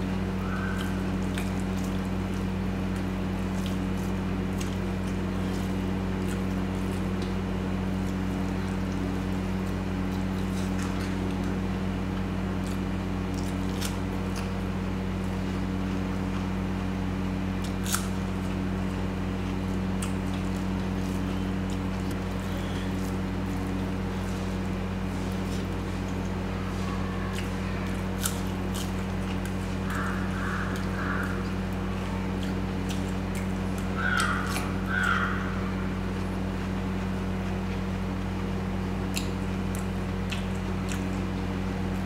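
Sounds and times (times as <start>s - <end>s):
steady low hum: 0.0s - 42.0s
wet chewing: 0.6s - 14.6s, 17.6s - 35.3s, 39.0s - 42.0s.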